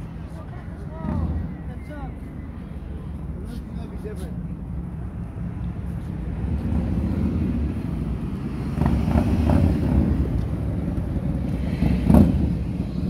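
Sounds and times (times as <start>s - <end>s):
road traffic rumbling: 0.0s - 13.0s.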